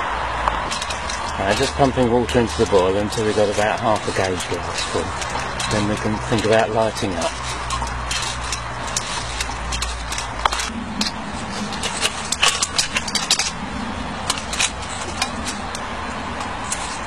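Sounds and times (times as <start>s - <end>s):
low hum: 0.0s - 17.0s
light metallic clicks and rattles: 0.4s - 17.0s.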